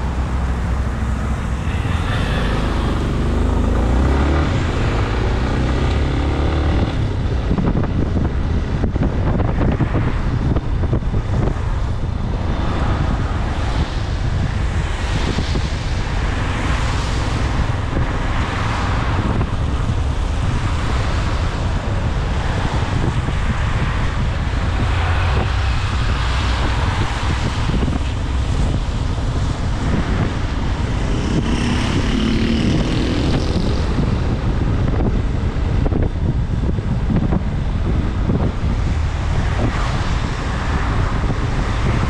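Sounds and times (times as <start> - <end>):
tyres on wet road: 0.0 - 42.0
wind rushing over microphone: 0.0 - 42.0.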